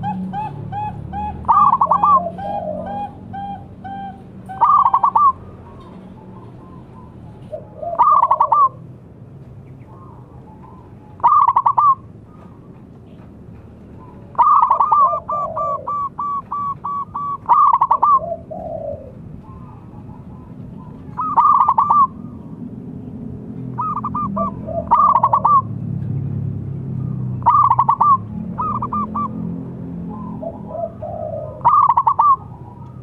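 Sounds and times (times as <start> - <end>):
dove cooing: 0.0 - 8.8, 9.8 - 12.7, 14.0 - 22.6, 23.7 - 25.8, 27.0 - 33.0.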